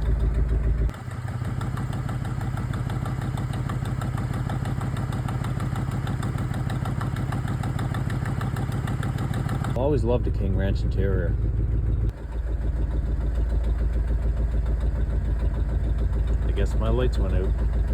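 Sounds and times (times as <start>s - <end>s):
exhaust leak ticking: 0.0s - 17.9s
truck engine idling: 0.0s - 17.9s.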